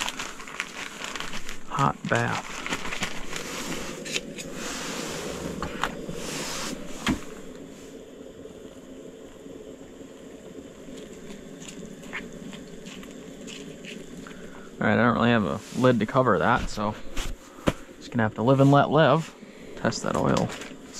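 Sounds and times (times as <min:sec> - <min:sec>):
propane burner hissing: 0:00.0 - 0:20.9.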